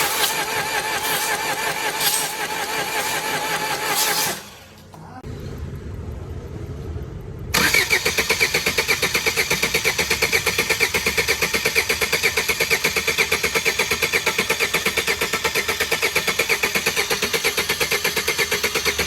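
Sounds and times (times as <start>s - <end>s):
car engine cranking and starting: 0.0s - 5.6s, 7.5s - 19.0s.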